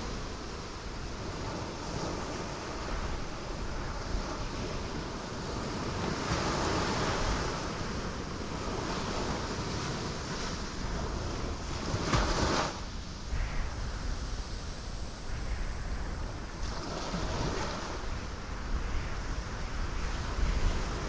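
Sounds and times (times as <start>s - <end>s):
ocean waves breaking on rocks: 0.0s - 21.0s.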